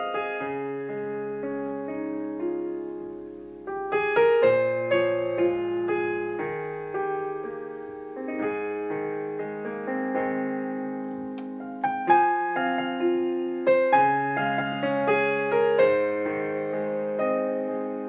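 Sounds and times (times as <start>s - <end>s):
slow chordal piano: 0.0s - 18.0s.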